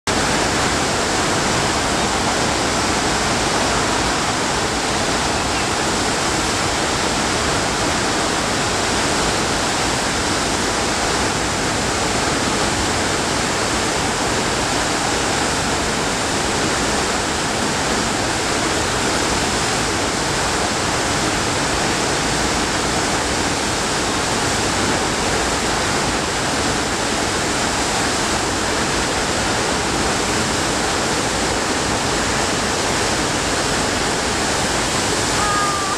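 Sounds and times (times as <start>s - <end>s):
loud rushing water: 0.0s - 35.9s.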